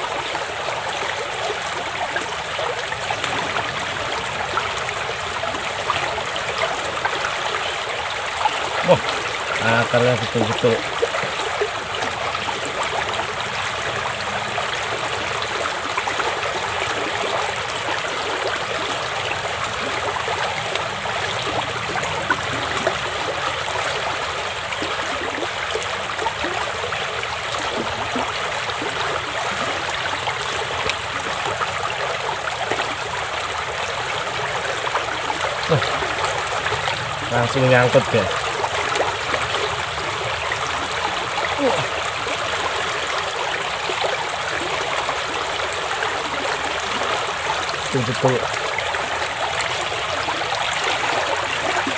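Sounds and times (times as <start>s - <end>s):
small stream trickling: 0.0s - 51.9s.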